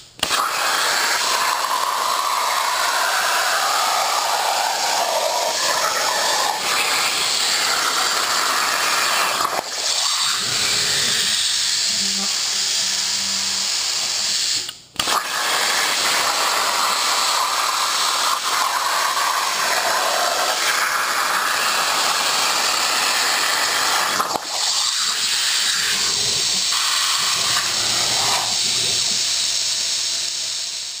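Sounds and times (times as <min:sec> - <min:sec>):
plasma arc hissing: 0:00.0 - 0:31.0.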